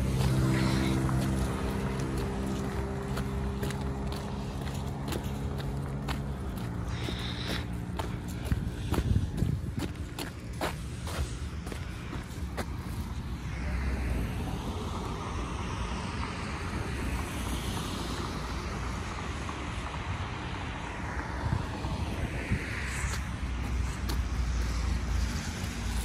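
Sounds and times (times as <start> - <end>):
cars passing: 0.0 - 26.0
wind rumble on microphone: 0.0 - 26.0.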